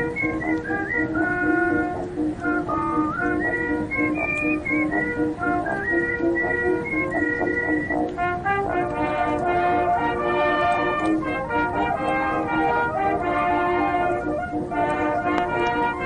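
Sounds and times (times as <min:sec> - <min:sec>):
crackling hiss: 0:00.0 - 0:16.0
old brass band recording: 0:00.0 - 0:16.0.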